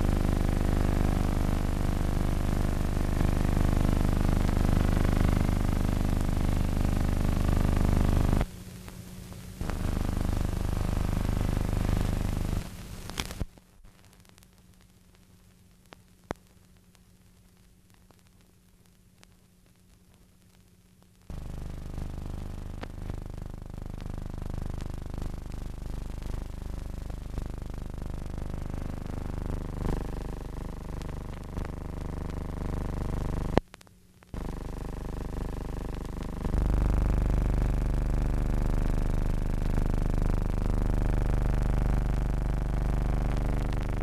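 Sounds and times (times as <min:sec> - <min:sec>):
faint hum: 0:00.0 - 0:44.0.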